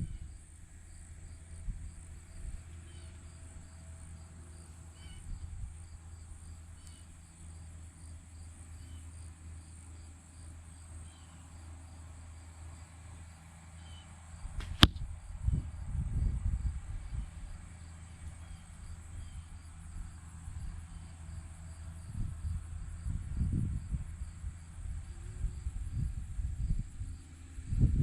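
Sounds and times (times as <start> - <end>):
crickets and insects chirping: 0.0 - 28.0.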